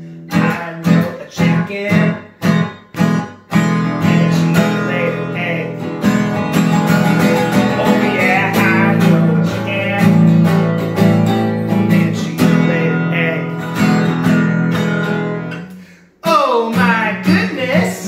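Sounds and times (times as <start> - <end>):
acoustic guitar strummed: 0.0 - 18.0.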